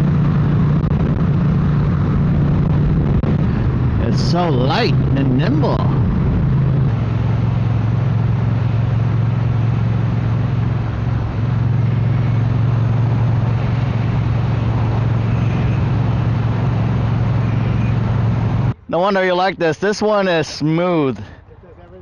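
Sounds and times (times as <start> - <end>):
motorcycle engine cruising: 0.0 - 18.8.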